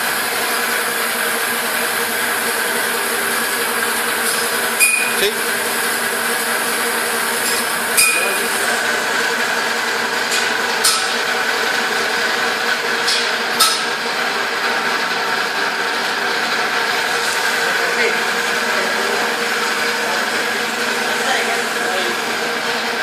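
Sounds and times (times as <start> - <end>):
welding machine humming: 0.0 - 23.0.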